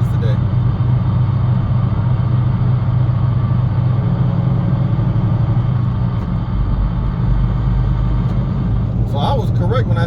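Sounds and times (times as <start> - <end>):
diesel truck engine drone: 0.0 - 10.0
road noise: 0.0 - 10.0.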